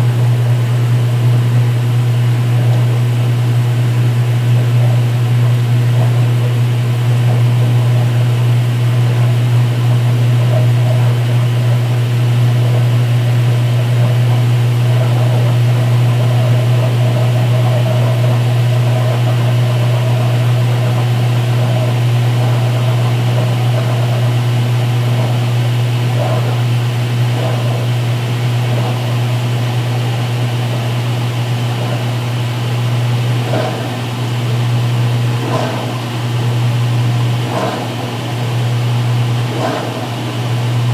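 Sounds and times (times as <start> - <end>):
drain pump running: 0.0 - 40.9
washing machine spinning: 0.0 - 40.9.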